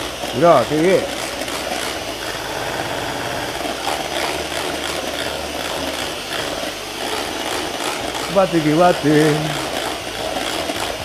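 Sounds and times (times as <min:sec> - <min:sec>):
electric hand mixer whipping cream: 0:00.0 - 0:11.0.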